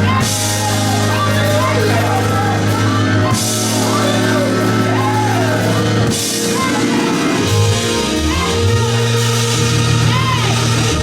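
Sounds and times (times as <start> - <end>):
gospel band with drums and bass: 0.0 - 11.0.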